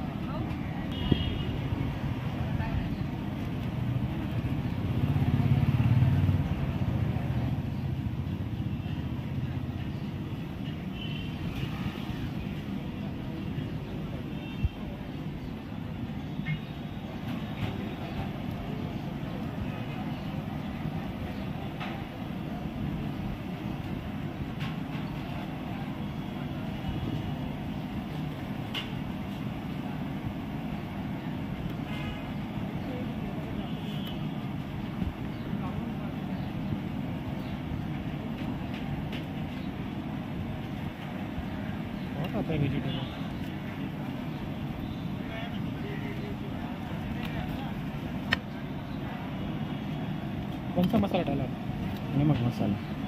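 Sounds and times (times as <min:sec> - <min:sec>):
passing traffic engine rumble: 0:00.0 - 0:53.0.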